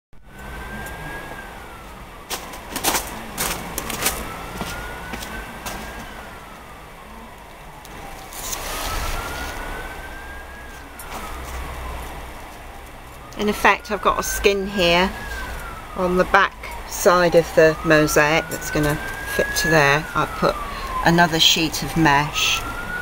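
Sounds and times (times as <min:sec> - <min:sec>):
siren wailing: 0:00.2 - 0:23.0.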